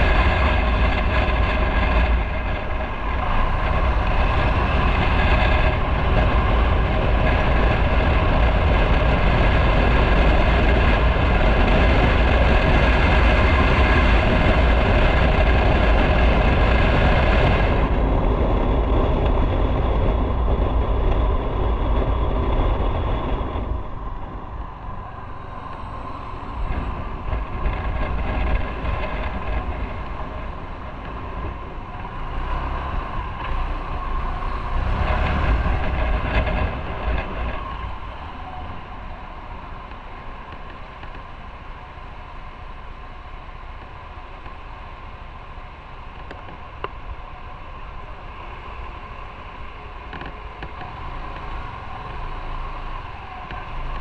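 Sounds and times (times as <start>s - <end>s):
motorcycle riding: 0.0s - 54.0s
road and wind noise: 0.0s - 54.0s.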